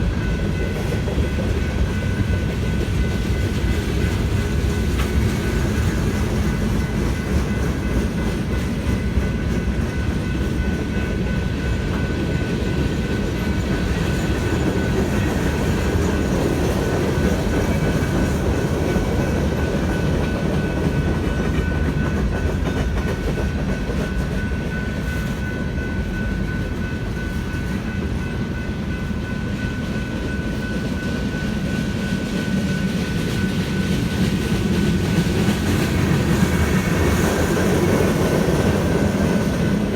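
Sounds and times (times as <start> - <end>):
crossing bell ringing: 0.0 - 39.9
freight train rumbling: 0.0 - 39.9.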